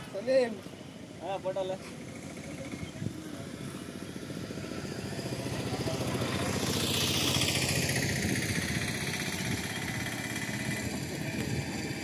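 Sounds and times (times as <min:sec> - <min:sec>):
motor vehicle passing by: 0:00.0 - 0:12.0.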